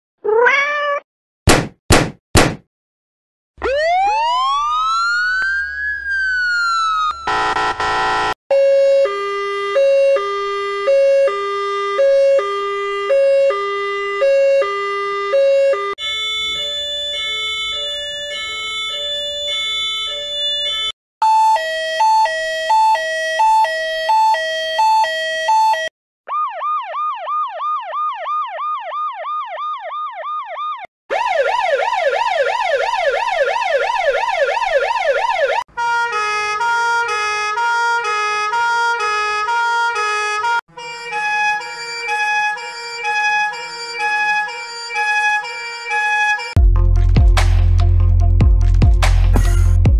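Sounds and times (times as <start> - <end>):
ambulance siren wailing: 3.6 - 46.6
harsh siren blast: 3.6 - 46.6
siren yelp: 3.6 - 46.6
two-tone hi-lo siren: 3.6 - 46.6.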